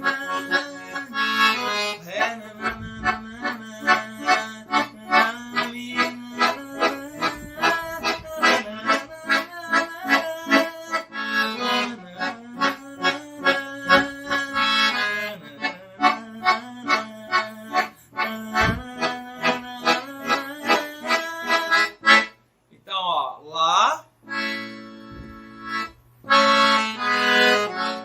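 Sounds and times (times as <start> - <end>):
accordion playing chords: 0.0 - 22.5, 24.2 - 28.0.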